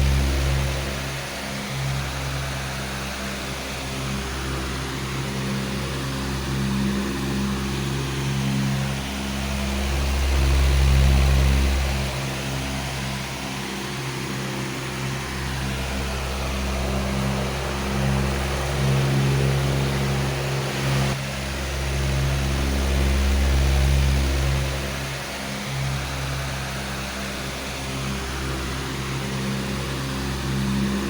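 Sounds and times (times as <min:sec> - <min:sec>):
electric fan running: 0:00.0 - 0:31.0.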